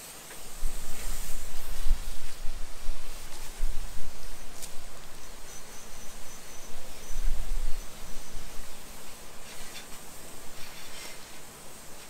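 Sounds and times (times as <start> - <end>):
hose spray hissing: 0.0 - 12.0
wind rumble on microphone: 0.4 - 11.5.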